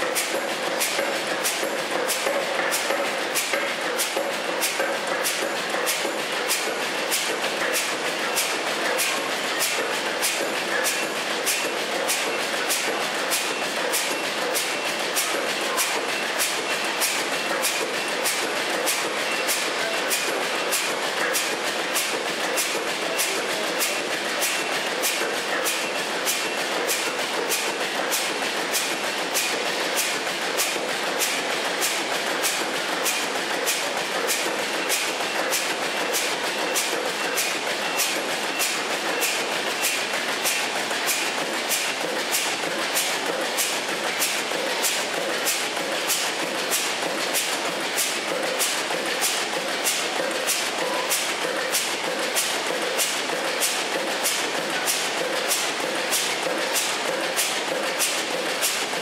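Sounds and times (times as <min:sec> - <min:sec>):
machinery running: 0:00.0 - 0:59.0.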